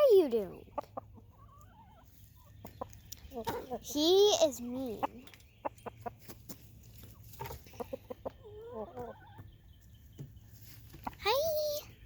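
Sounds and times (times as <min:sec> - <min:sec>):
chickens clucking softly: 0:00.4 - 0:11.3.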